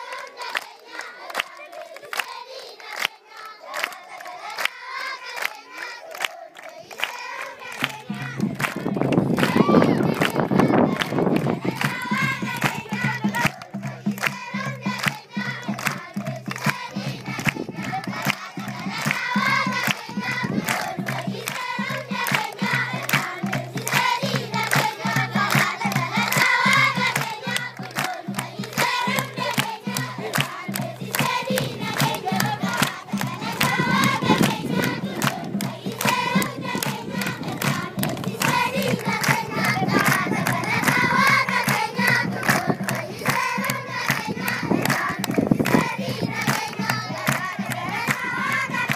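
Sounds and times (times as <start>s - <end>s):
children clapping in time: 0.0s - 48.9s
children singing together: 0.0s - 48.9s.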